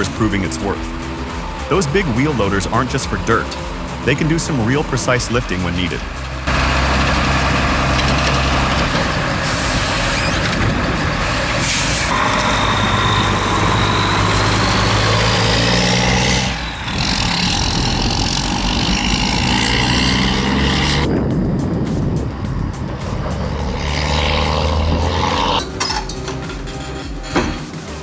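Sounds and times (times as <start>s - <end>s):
faint rising whine: 0.0s - 25.9s
heavy diesel machinery running: 0.0s - 28.0s.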